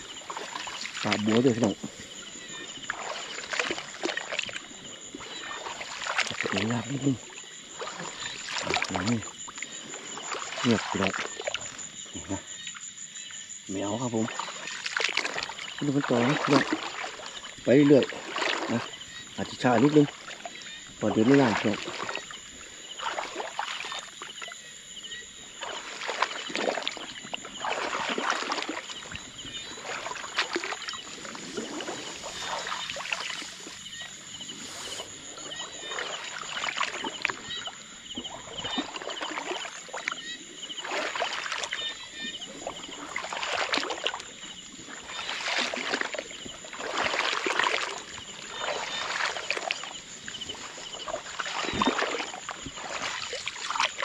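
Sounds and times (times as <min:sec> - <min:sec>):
wading through shallow water: 0:00.0 - 0:54.0.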